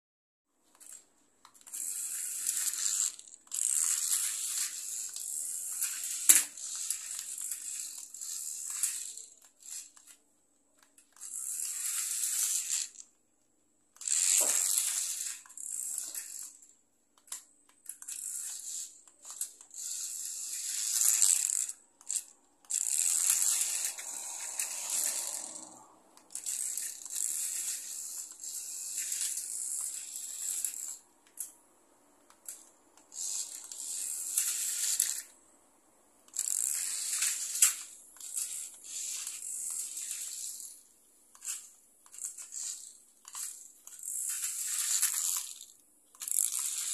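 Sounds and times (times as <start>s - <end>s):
toy car motor whirring: 0.6s - 13.2s, 13.8s - 35.5s, 36.2s - 46.9s.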